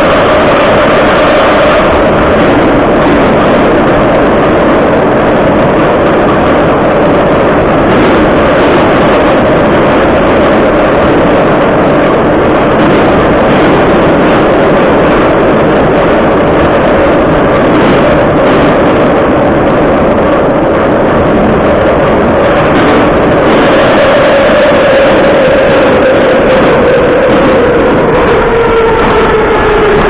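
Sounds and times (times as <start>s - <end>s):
subway car wheels running: 0.0s - 30.0s.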